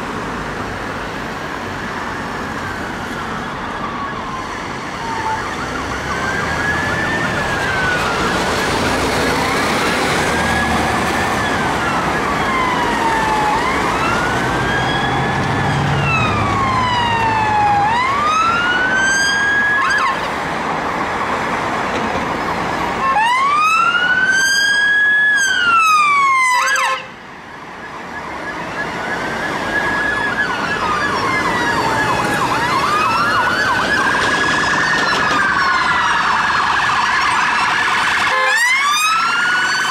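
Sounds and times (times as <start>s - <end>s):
police sirens wailing: 0.0s - 39.9s
fast siren yelp: 3.3s - 20.3s, 23.0s - 39.9s.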